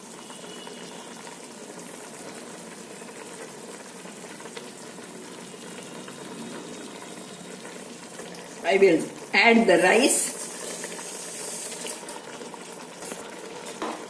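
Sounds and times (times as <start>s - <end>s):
pot boiling and bubbling: 0.0s - 14.0s.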